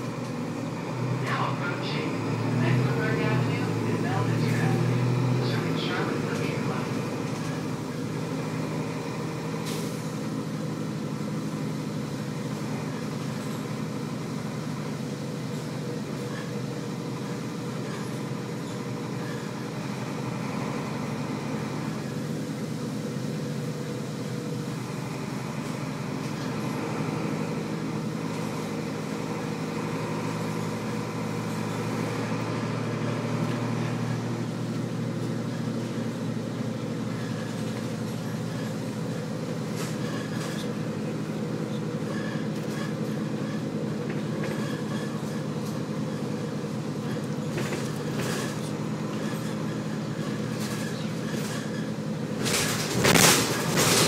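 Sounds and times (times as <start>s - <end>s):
bus diesel engine drone: 0.0s - 54.0s
road noise: 0.0s - 54.0s.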